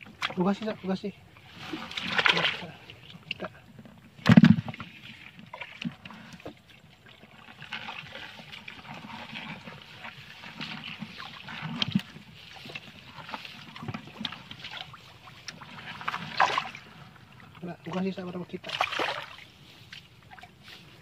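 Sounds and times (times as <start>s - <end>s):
water trickling: 0.0s - 21.0s
fish splashing in water: 1.3s - 3.5s, 4.2s - 17.7s, 18.5s - 21.0s.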